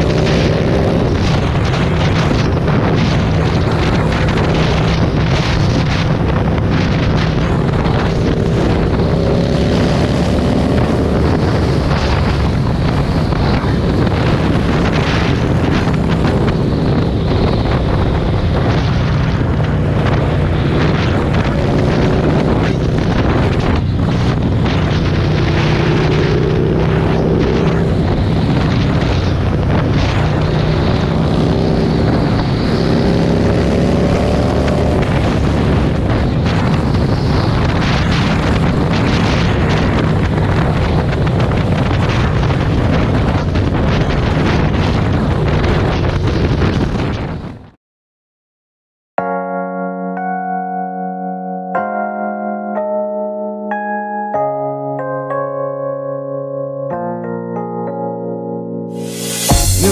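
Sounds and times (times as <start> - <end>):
motorcycle engine cruising: 0.0 - 47.5, 59.1 - 59.9
wind noise on microphone: 0.0 - 47.8, 59.1 - 59.9.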